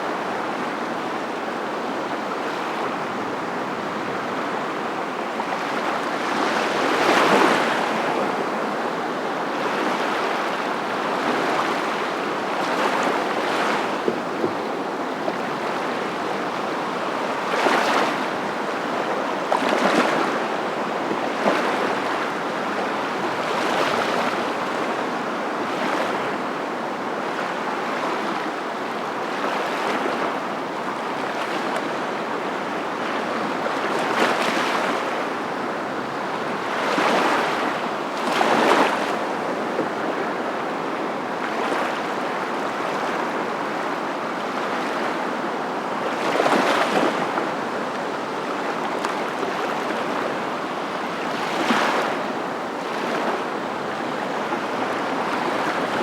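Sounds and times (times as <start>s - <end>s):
surf waves breaking: 0.0s - 56.0s.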